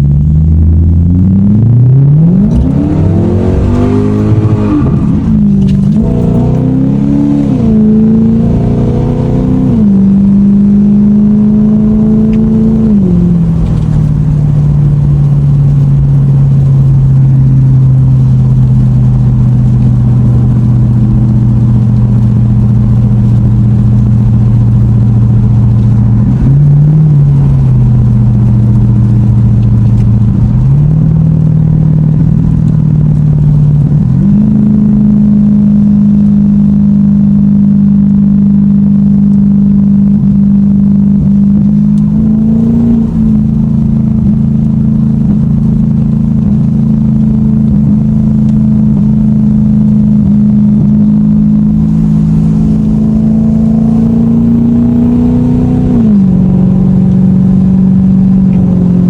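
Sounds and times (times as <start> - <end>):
road noise rushing: 0.0 - 36.3, 39.9 - 59.0
car engine running while driving: 0.0 - 59.0.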